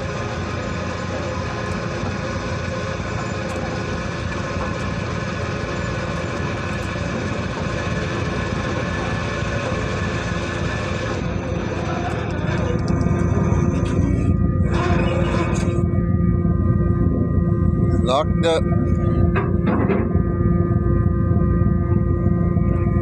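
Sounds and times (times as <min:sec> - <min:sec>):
ferry engines droning: 0:00.0 - 0:23.0.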